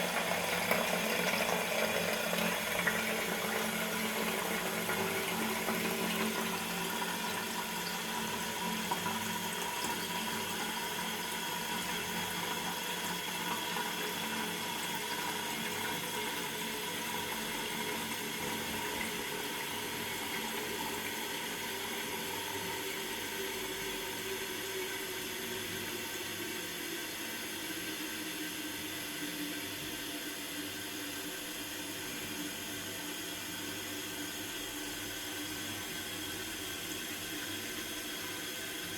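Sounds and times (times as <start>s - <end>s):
toilet tank refilling: 0.0s - 38.9s.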